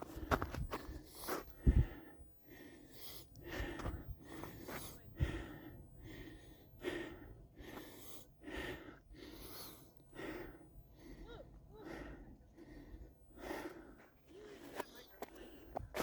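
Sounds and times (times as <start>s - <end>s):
person breathing hard: 0.0s - 16.0s.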